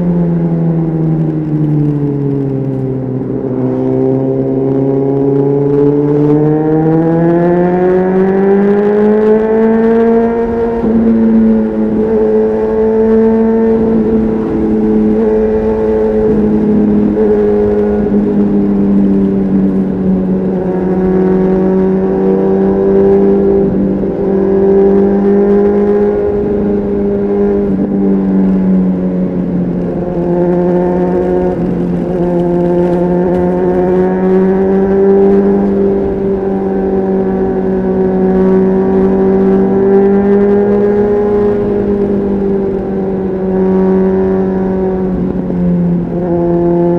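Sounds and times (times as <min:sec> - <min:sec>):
motorcycle engine at high revs: 0:00.0 - 0:46.9.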